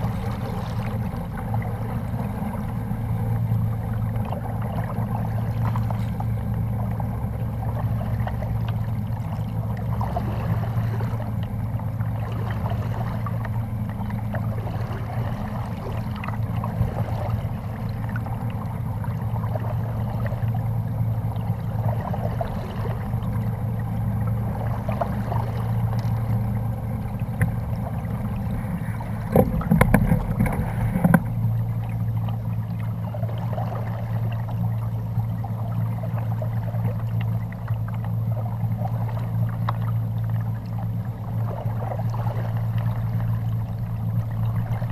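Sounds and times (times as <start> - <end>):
steady low hum: 0.0 - 44.9
water lapping against kayak hull: 0.0 - 44.9.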